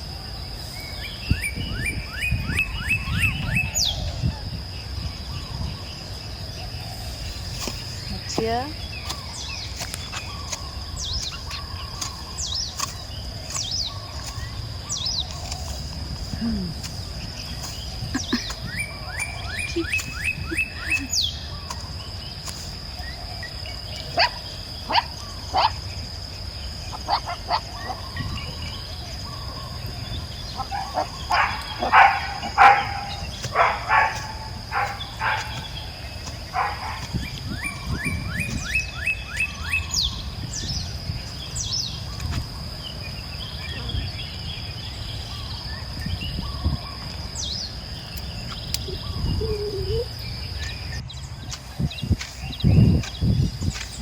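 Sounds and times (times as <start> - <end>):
birds chirping: 0.0 - 54.0
high insect drone: 0.0 - 54.0.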